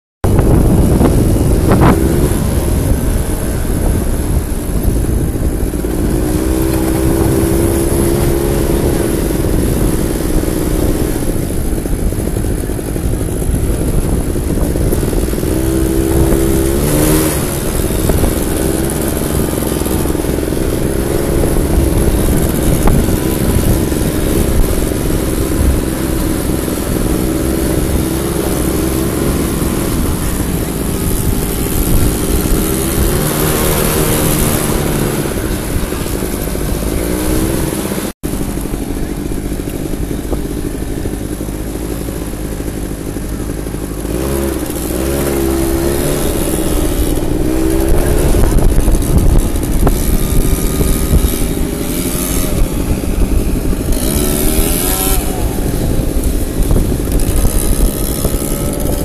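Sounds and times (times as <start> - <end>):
quad bike engines revving: 0.2 - 59.0
steady loud rumble: 0.2 - 59.0.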